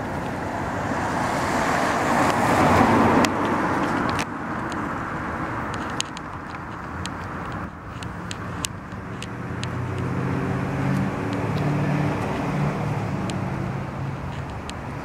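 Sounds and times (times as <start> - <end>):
passing vehicle engine hum: 0.0 - 15.0
road noise: 0.0 - 15.0.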